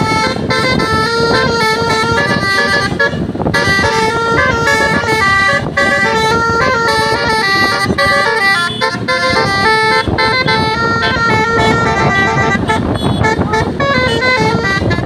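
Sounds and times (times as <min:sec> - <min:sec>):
bus musical air horn: 0:00.0 - 0:15.0.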